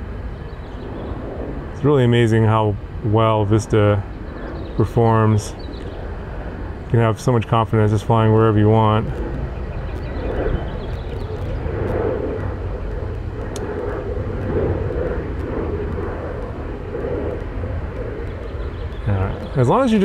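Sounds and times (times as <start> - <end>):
low rumble: 0.0 - 20.0
quadcopter propeller buzzing: 0.0 - 20.0.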